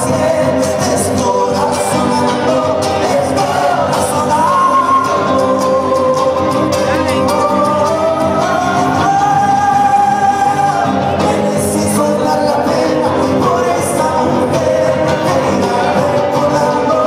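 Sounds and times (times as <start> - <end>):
live band music: 0.0 - 17.0
person singing: 0.0 - 17.0
strummed guitars: 0.0 - 17.0.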